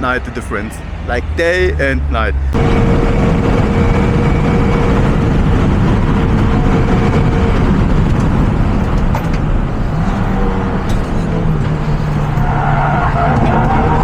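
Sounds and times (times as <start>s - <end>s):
car engine and tyres running: 0.2s - 14.0s.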